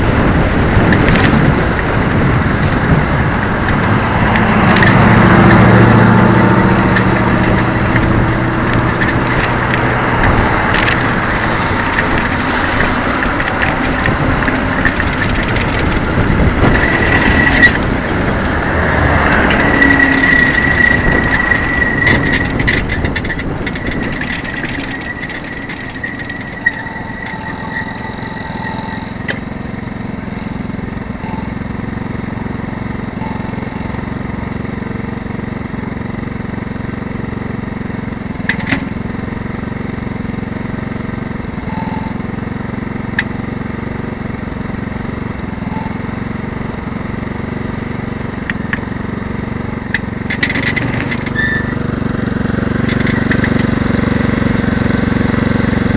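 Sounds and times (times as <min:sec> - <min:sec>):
high whine: 0:00.0 - 0:55.9
motorcycle engine running: 0:00.0 - 0:55.9.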